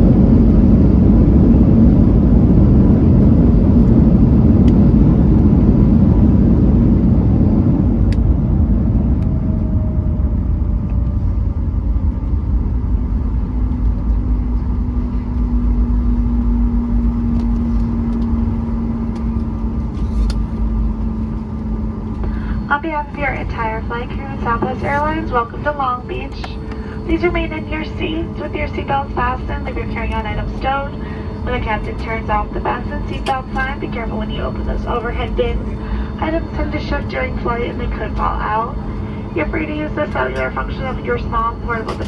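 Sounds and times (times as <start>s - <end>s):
deep rumble of jet engines: 0.0s - 42.0s
steady cabin hum: 0.0s - 42.0s.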